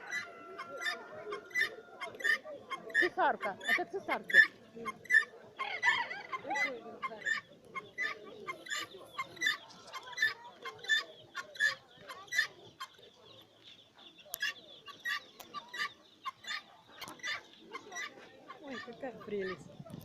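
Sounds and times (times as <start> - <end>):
guineafowl calling: 0.0 - 13.4, 14.0 - 20.0.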